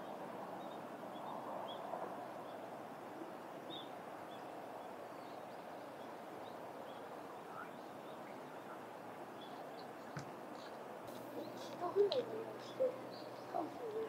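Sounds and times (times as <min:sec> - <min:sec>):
outdoor background hiss: 0:00.0 - 0:14.0
small birds chirping: 0:00.0 - 0:14.0.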